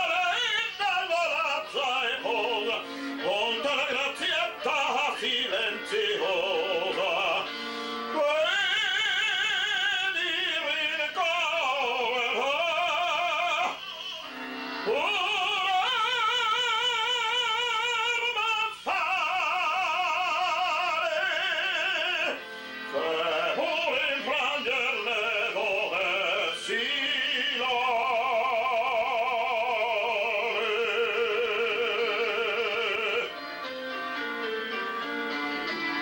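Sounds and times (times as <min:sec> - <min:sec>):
tenor singing opera aria: 0:00.0 - 0:33.4.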